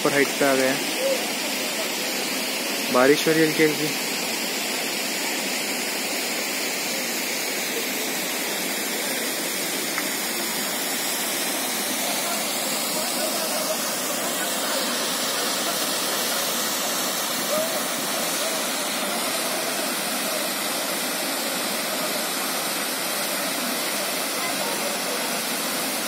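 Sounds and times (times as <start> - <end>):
water rushing over waterfall: 0.0 - 26.0.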